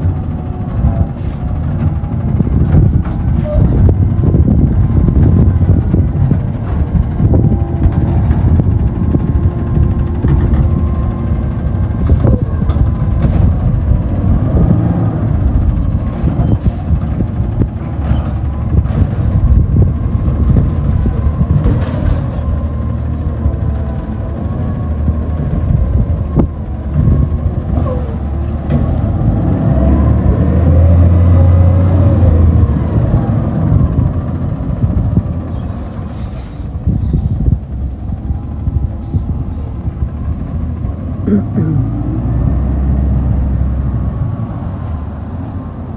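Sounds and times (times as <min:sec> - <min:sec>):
garbage truck engine running: 0:00.0 - 0:45.9.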